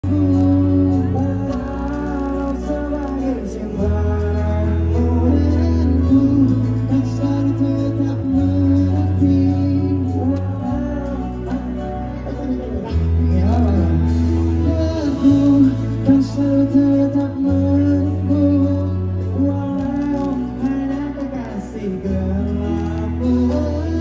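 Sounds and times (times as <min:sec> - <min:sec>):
deep held bass notes: 0:00.0 - 0:24.0
person singing: 0:00.0 - 0:24.0
pop band music: 0:00.0 - 0:24.0.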